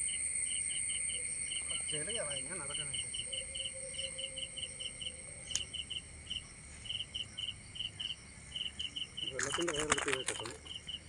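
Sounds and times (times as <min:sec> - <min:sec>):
crickets chirping: 0:00.0 - 0:11.0
high insect drone: 0:00.0 - 0:11.0.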